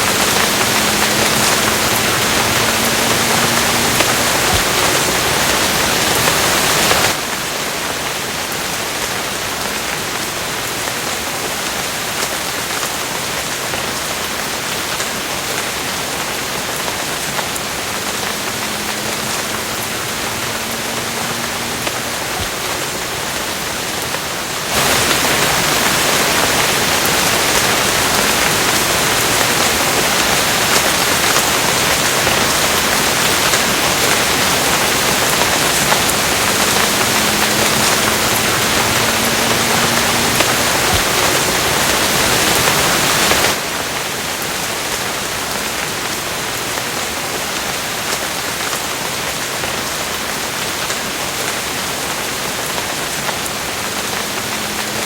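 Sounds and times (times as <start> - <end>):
loud hissy rush: 0.0 - 10.1, 10.8 - 55.0
steady rain: 0.0 - 55.0.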